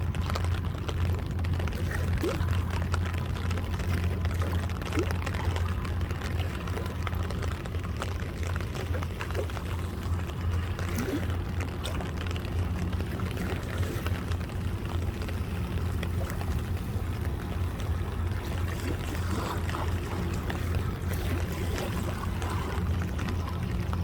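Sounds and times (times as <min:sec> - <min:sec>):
river water lapping at bank: 0:00.0 - 0:24.0.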